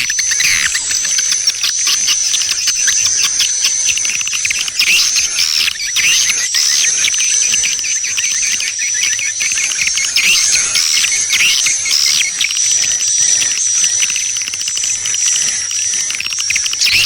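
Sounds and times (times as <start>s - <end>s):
rapid high bird chirps: 0.0s - 14.0s, 16.7s - 17.0s.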